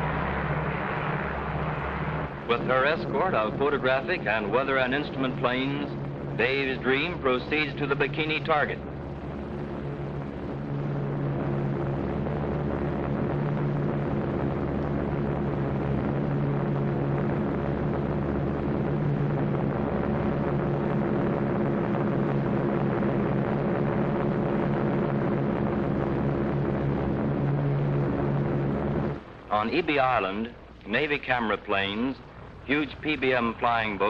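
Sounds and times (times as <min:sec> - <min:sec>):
propeller aircraft engines droning: 0:00.0 - 0:34.0.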